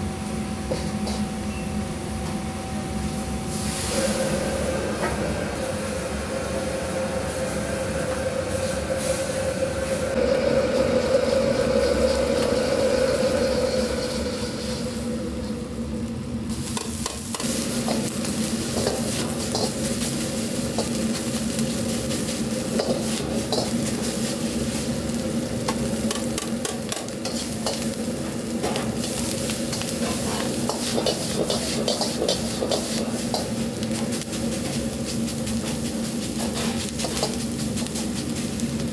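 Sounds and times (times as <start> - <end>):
low kitchen hum: 0.0 - 38.9
rice sizzling: 3.5 - 38.9.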